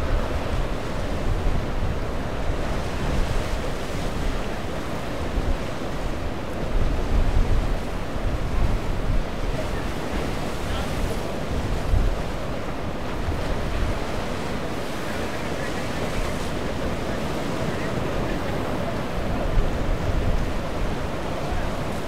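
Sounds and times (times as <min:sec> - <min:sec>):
surf washing against rocks: 0:00.0 - 0:22.0
wind buffeting microphone: 0:00.0 - 0:22.0.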